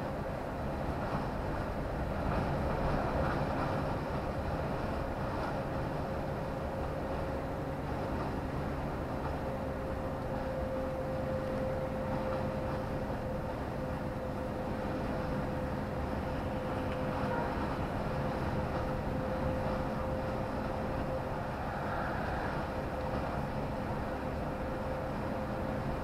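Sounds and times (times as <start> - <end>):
constant low hum: 0.0 - 26.0
vehicle engine and road noise: 0.0 - 26.0.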